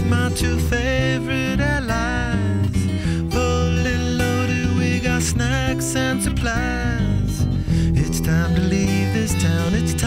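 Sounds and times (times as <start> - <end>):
song with acoustic guitar: 0.0 - 10.0.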